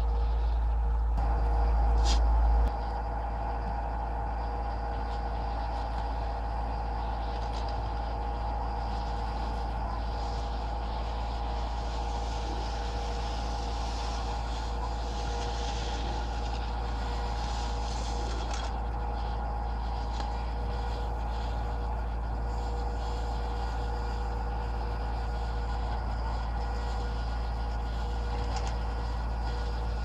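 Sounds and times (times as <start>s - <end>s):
ski lift engine rumbling: 0.0s - 30.0s.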